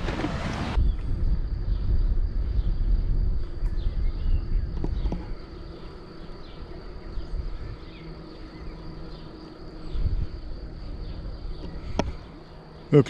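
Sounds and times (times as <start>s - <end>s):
wind on microphone: 0.0s - 12.4s
bicycle rolling rumble: 0.0s - 13.0s.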